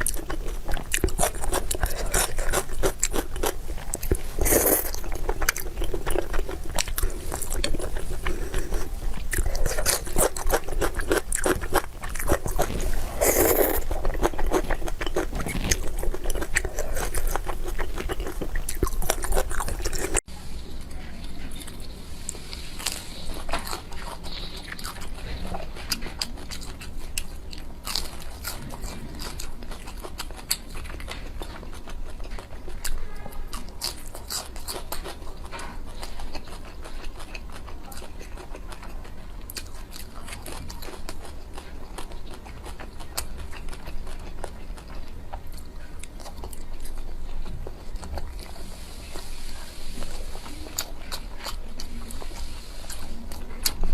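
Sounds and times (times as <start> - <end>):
person chewing crunchy food: 0.0 - 20.3, 20.9 - 53.9.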